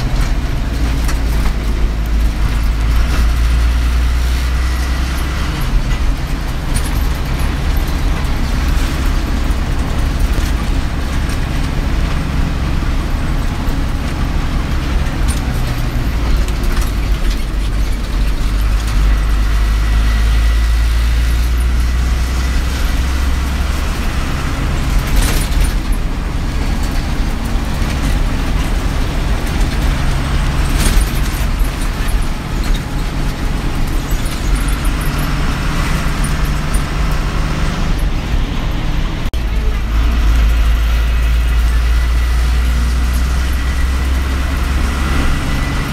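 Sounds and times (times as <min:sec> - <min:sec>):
bus engine drone: 0:00.0 - 0:45.9
road noise: 0:00.0 - 0:45.9.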